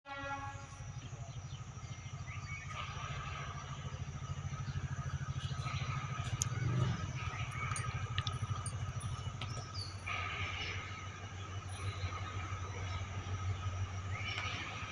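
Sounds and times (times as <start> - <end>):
train rumbling: 0.3 - 14.9
faint bird chirps: 0.4 - 14.9.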